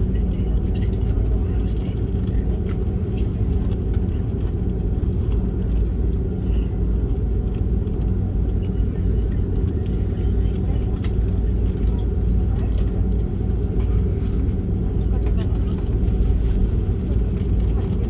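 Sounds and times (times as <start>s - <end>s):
airplane engines rumbling in cabin: 0.0s - 18.0s.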